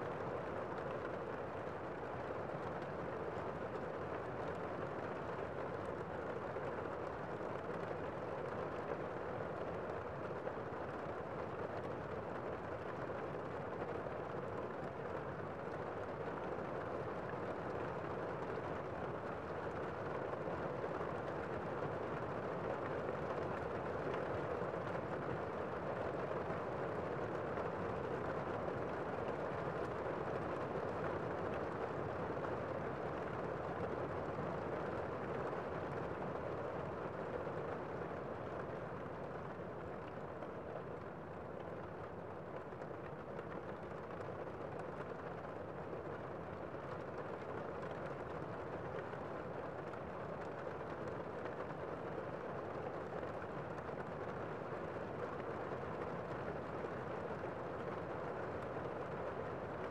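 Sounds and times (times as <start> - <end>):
rain on a window: 0.0 - 59.9.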